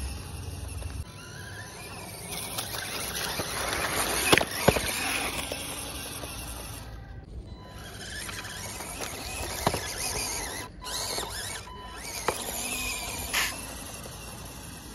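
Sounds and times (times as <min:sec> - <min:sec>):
toy car electric motor whining: 0:00.0 - 0:14.9.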